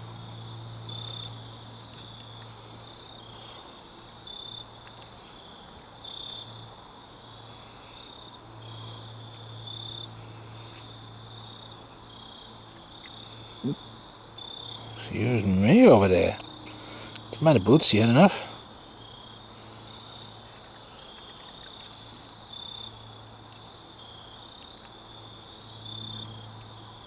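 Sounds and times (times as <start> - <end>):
crickets trilling: 0.0 - 27.0
low steady hum: 0.0 - 27.0.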